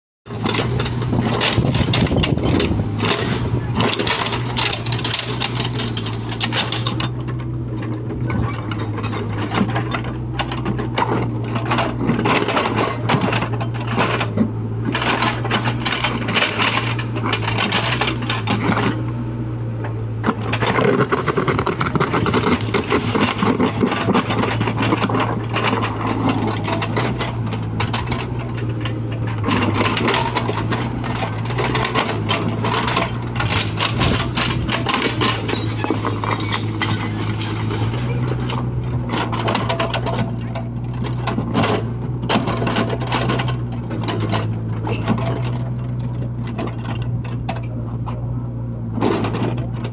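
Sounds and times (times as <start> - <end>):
clattering and knocks: 0.3 - 19.0, 19.8 - 48.2
excavator engine running: 0.3 - 49.9.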